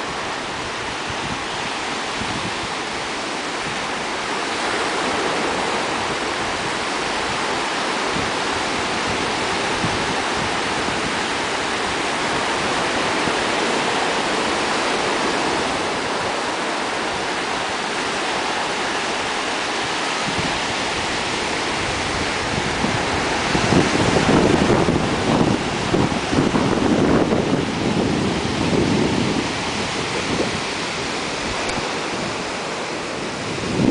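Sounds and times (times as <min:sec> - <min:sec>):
ocean surf breaking: 0:00.0 - 0:33.9
wind buffeting microphone: 0:00.0 - 0:33.9.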